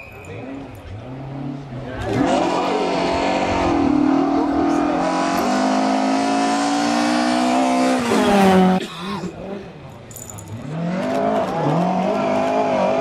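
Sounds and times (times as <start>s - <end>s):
rally car engine revving: 0.4s - 9.7s, 10.5s - 13.0s.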